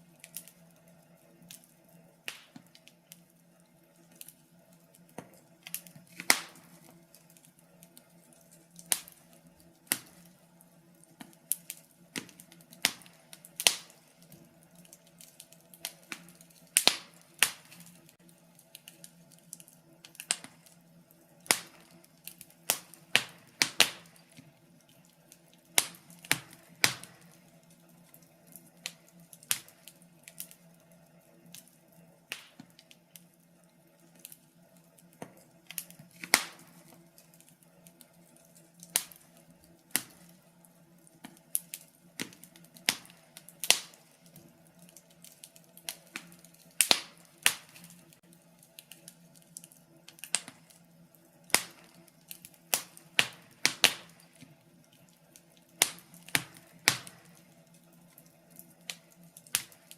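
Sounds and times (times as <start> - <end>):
faint steady hum: 0.0 - 59.9
wood fire crackling: 0.0 - 59.9.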